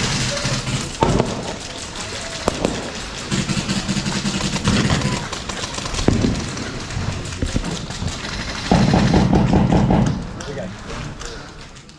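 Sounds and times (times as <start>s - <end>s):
airsoft guns firing bursts: 0.0s - 10.2s.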